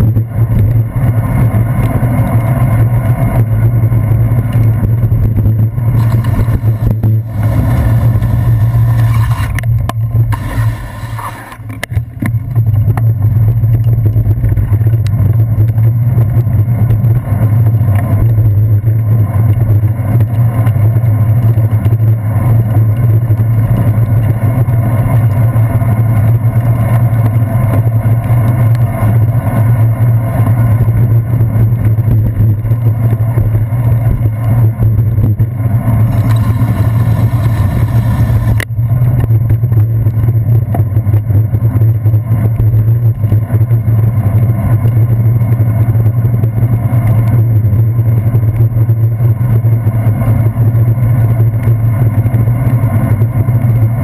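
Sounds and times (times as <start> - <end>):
road vibration: 0.0 - 54.0
wind rumble: 0.0 - 54.0.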